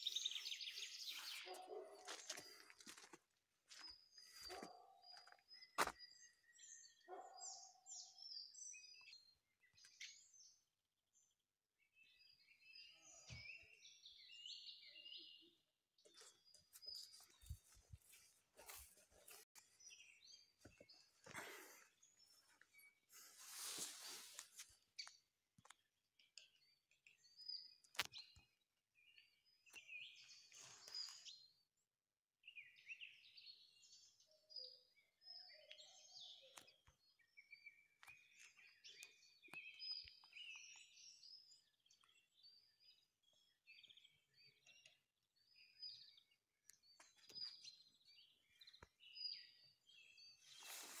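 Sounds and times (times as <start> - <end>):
songbirds chirping and warbling: 0.0 - 51.0.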